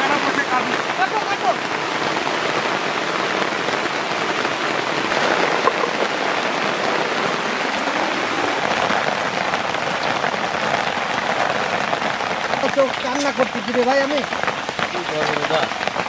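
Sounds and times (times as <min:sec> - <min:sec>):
rain on leafy foliage: 0:00.0 - 0:16.0.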